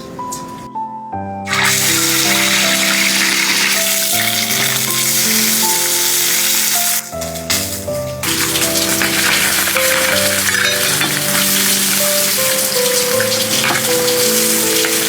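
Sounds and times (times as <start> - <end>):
background music: 0.0 - 15.0
food sizzling in hot oil: 1.5 - 15.0.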